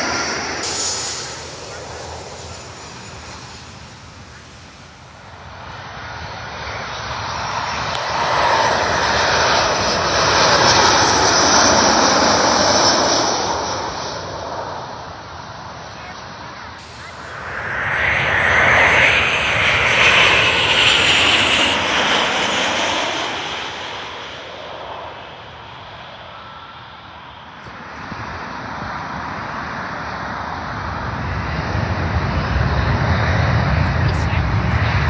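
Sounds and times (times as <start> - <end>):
jet airliner passing overhead: 0.0 - 35.0.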